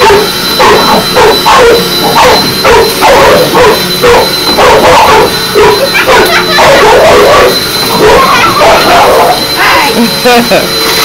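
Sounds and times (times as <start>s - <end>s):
dog barking: 0.0s - 9.4s
vacuum cleaner: 0.0s - 11.0s.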